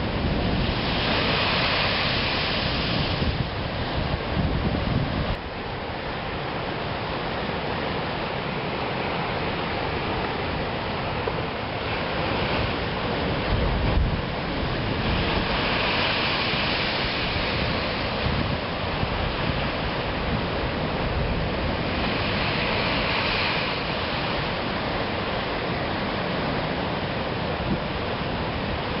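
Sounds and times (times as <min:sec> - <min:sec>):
ocean surf breaking on shore: 0:00.0 - 0:29.0
wind rumbling on microphone: 0:00.0 - 0:29.0.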